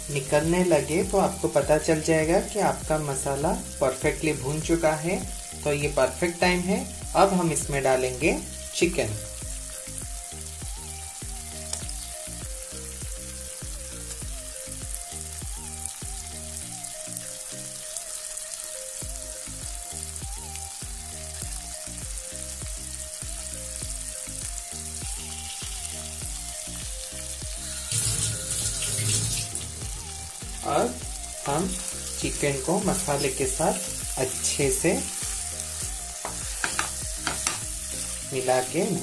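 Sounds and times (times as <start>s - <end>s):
background music with steady beat: 0.0s - 39.0s
paste sizzling in oil: 0.0s - 39.0s.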